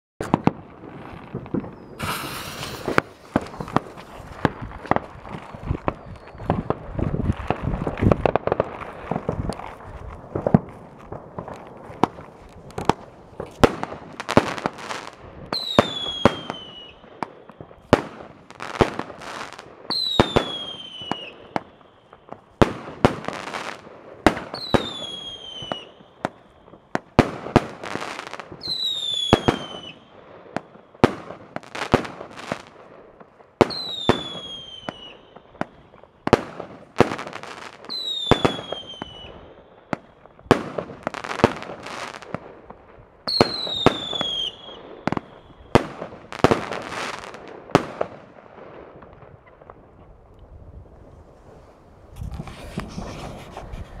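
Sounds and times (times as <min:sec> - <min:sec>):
firework bangs and bursts: 0:00.2 - 0:49.8.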